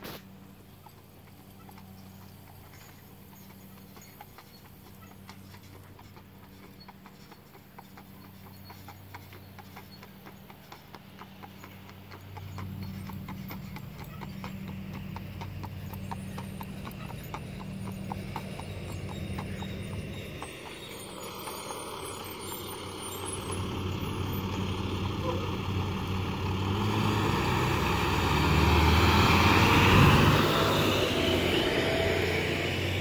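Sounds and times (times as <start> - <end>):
steady low hum: 0.0 - 26.6
hooves clip-clopping on pavement: 0.0 - 33.0.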